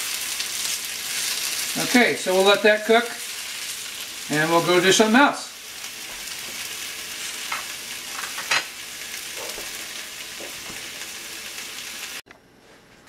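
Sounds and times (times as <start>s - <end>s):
vegetables sizzling in a pan: 0.0s - 12.2s.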